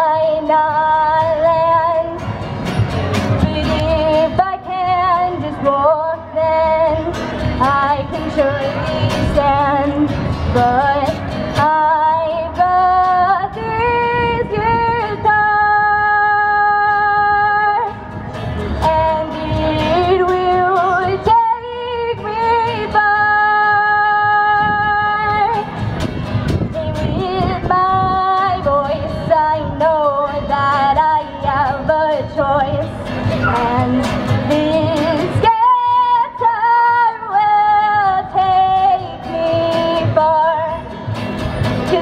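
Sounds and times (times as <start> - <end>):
woman singing: 0.0 - 2.3, 3.4 - 18.0, 18.8 - 25.7, 26.8 - 41.0
acoustic guitar: 0.0 - 42.0.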